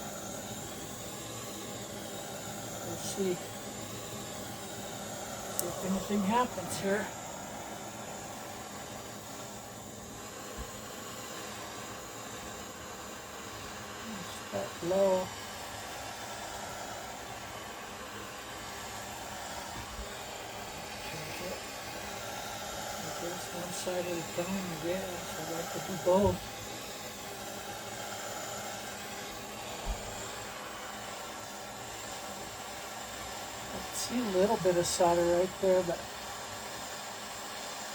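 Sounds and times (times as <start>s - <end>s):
heater blowing hiss: 0.0s - 37.9s.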